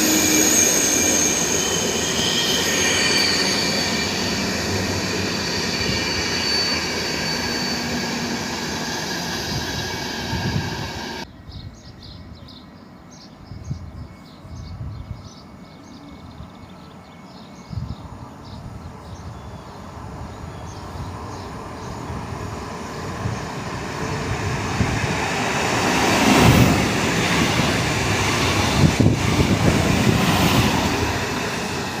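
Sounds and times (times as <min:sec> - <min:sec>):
train approaching and passing: 0:00.0 - 0:32.0
train wheels squealing: 0:00.0 - 0:32.0.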